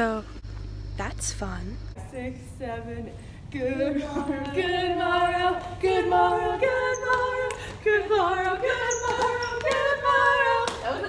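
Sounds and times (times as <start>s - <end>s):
women singing a cappella in harmony: 2.0s - 11.0s.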